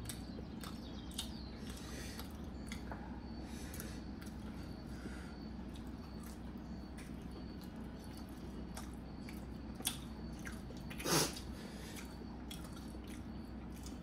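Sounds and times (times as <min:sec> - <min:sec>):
low room hum: 0:00.0 - 0:14.0
people chewing: 0:00.0 - 0:14.0.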